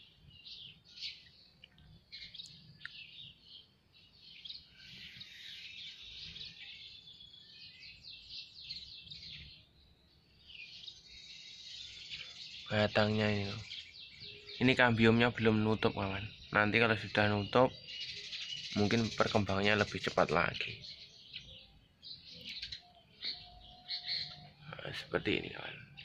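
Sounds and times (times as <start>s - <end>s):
small birds chirping and twittering: 0.0s - 26.0s.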